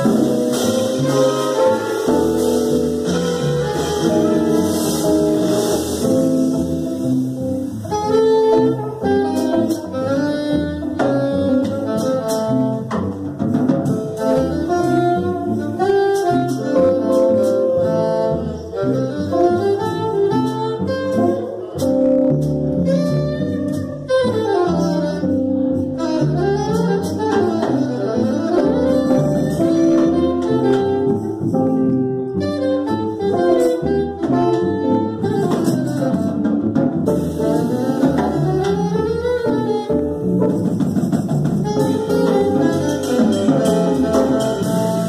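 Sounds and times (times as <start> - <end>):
trumpet: 0.0 - 13.2, 13.8 - 45.0
alto saxophone melody: 0.0 - 45.0
drum kit with cymbals: 0.0 - 45.0
walking upright bass: 0.0 - 45.0.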